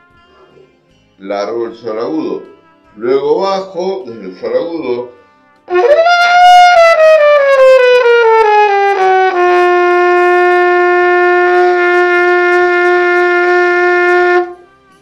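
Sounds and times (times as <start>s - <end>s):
trumpet playing: 1.9s - 14.7s.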